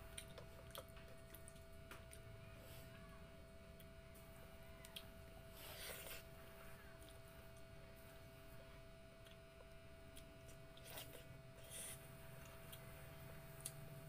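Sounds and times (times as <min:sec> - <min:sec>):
faint chewing: 0:00.0 - 0:03.0, 0:04.7 - 0:14.0
faint steady hum: 0:00.0 - 0:14.0.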